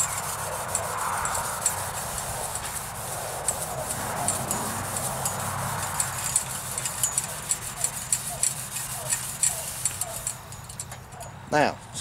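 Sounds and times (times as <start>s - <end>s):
scouring pad scrubbing metal: 0.0s - 10.4s.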